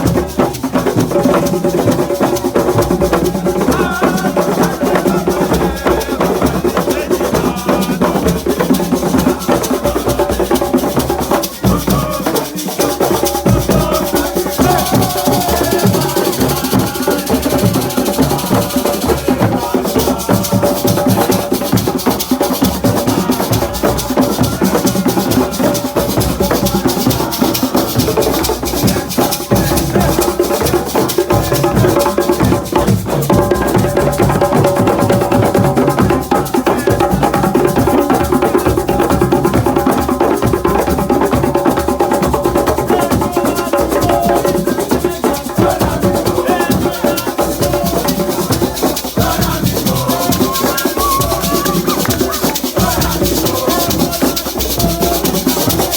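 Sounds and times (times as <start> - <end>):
frame drums and shakers: 0.0 - 55.9
voices singing: 0.0 - 55.9.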